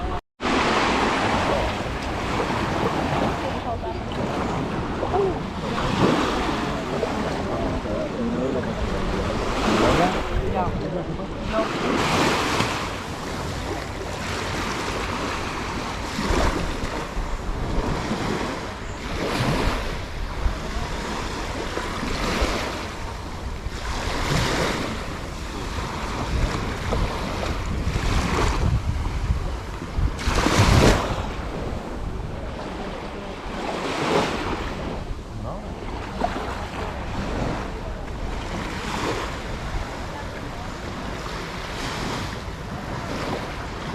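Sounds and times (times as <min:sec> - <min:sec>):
waves washing up on beach: 0:00.0 - 0:43.9
wind rumbling on microphone: 0:00.0 - 0:43.9.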